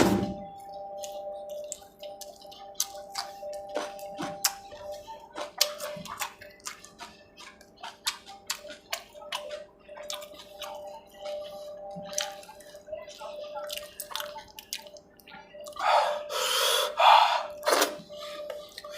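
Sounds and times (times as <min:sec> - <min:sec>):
faint steady hum: 0:00.0 - 0:18.9
wet chewing and lip smacks: 0:00.6 - 0:15.8.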